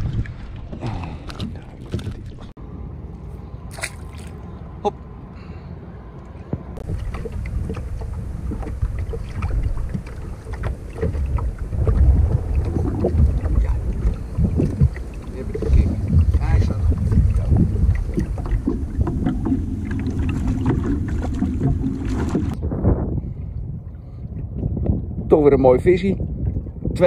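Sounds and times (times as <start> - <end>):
wind buffeting microphone: 0.0 - 2.5, 6.5 - 27.0.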